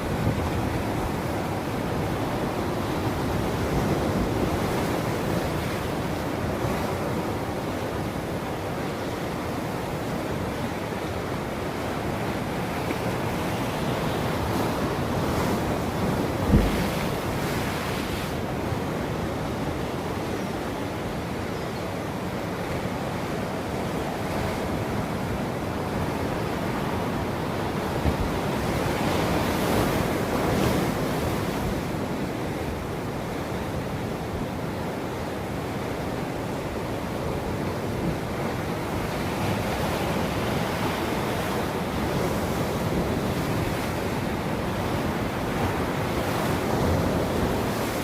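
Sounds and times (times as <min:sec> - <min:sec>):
ocean waves breaking: 0:00.0 - 0:20.2, 0:22.4 - 0:48.0.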